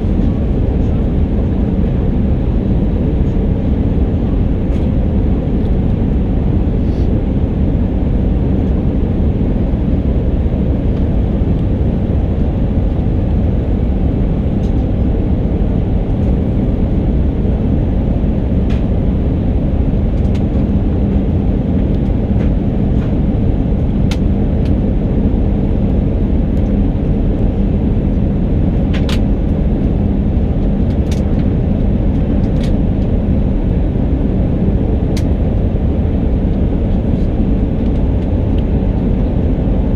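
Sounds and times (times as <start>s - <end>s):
engine and airflow rumble: 0.0s - 39.9s.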